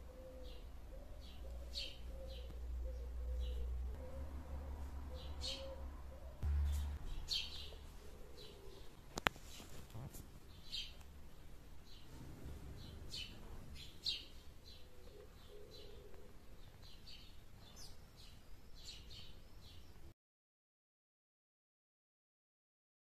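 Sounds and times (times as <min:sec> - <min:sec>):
birds chirping: 0:00.0 - 0:12.1, 0:12.7 - 0:20.1.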